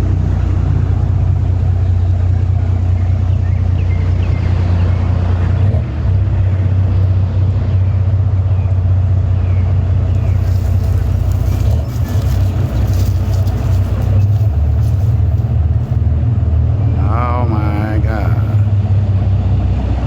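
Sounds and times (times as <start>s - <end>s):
heavy vehicle engine droning: 0.0s - 20.0s.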